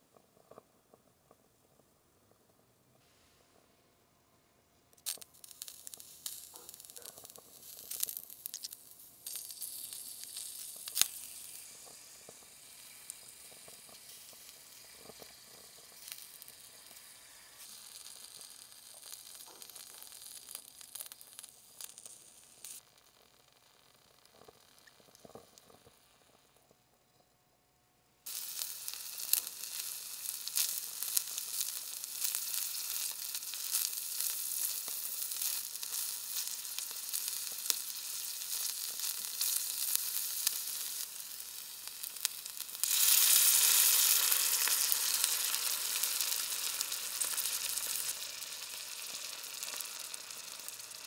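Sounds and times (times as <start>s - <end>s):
chicken sizzling in hot oil: 5.0s - 26.6s, 28.2s - 51.0s.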